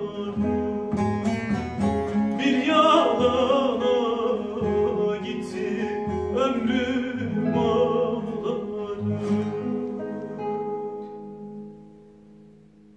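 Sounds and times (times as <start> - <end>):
plucked lute and guitar folk song: 0.0 - 12.9.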